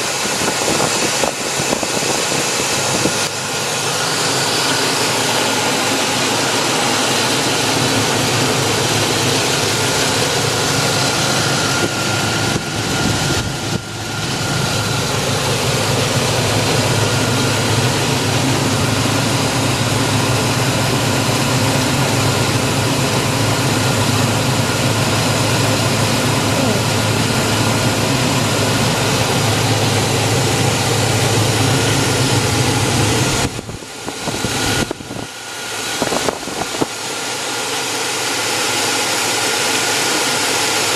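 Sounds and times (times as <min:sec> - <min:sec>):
thin steady whine: 0:00.0 - 0:40.1
truck engine idling: 0:00.0 - 0:40.9.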